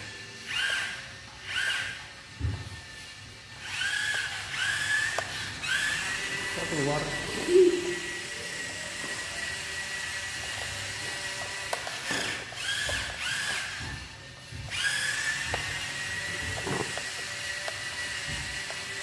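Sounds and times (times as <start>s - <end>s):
toy car electric motors whining: 0.0s - 19.0s.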